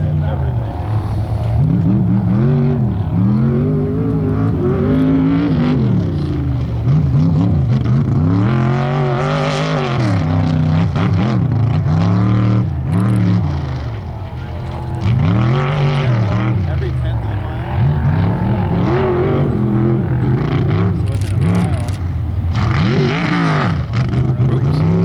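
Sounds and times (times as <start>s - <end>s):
race vehicle engine revving: 0.0s - 25.0s.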